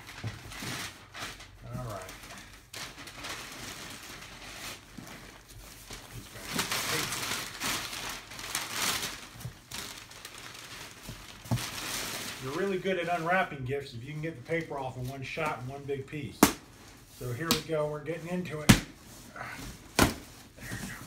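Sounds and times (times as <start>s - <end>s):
wrapping paper rustling and tearing: 0.0s - 21.0s.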